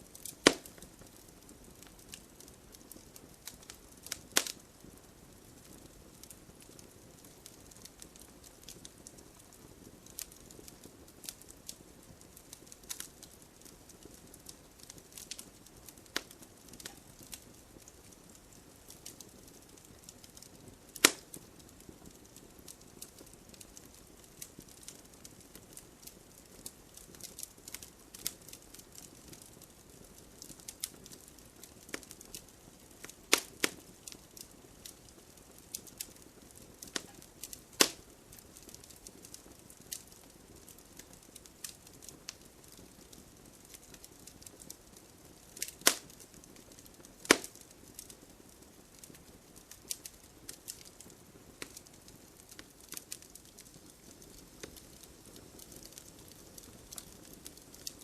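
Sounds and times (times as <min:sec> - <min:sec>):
campfire crackling and popping: 0:00.0 - 0:58.0
low steady fire hiss: 0:00.0 - 0:58.0.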